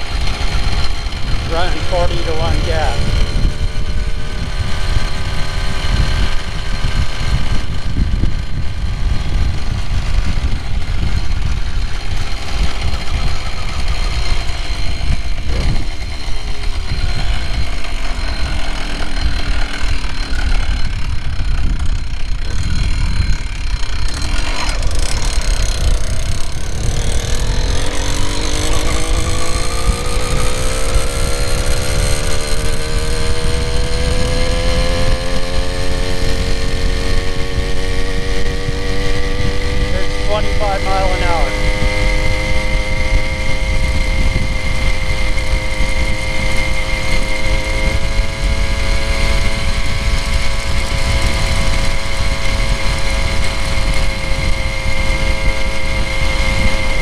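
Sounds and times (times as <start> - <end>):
two-stroke engine running: 0.0 - 57.0
wind on microphone: 0.0 - 57.0.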